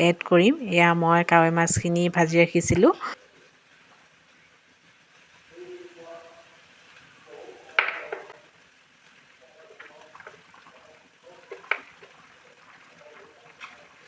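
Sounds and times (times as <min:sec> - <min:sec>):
faint liquid sounds: 0:01.1 - 0:14.0.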